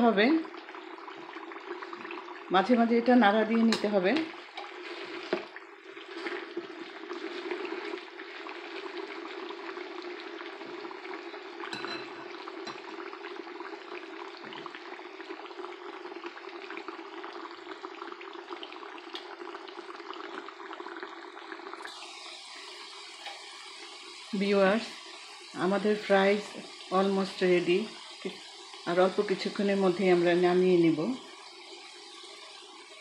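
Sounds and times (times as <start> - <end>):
fries sizzling in hot oil: 0.0 - 33.0.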